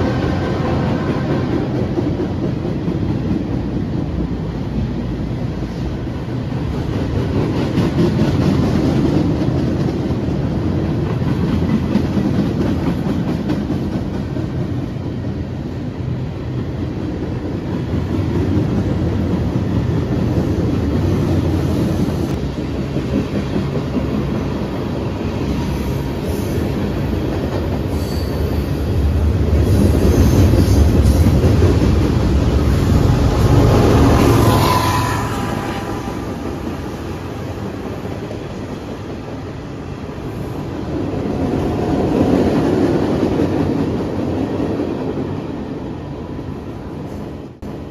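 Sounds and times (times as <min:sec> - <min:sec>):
diesel locomotive: 0:00.0 - 0:47.9
train wheels rumbling on rails: 0:00.0 - 0:47.9.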